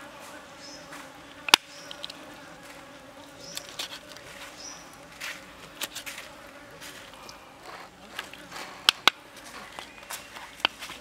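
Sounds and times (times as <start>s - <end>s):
steady insect buzz: 0.0s - 11.0s.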